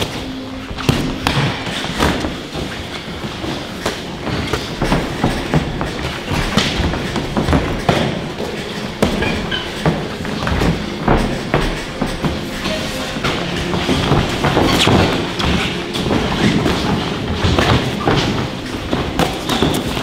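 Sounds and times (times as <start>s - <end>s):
gym noise: 0.0s - 20.0s.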